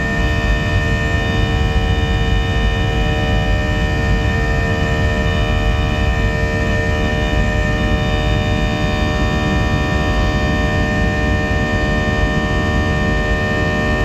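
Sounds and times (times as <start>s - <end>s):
jet engines low rumble: 0.0s - 14.0s
whining fan tones: 0.0s - 14.0s.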